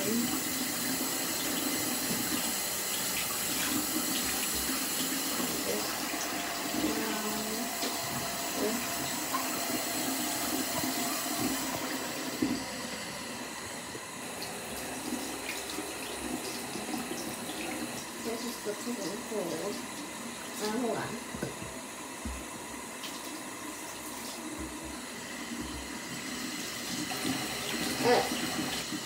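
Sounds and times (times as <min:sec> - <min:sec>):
faucet water running into sink: 0:00.0 - 0:29.0.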